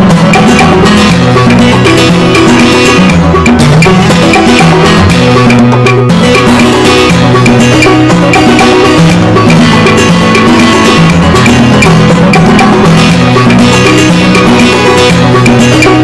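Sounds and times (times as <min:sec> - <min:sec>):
music with beat and bass: 0:00.0 - 0:16.0.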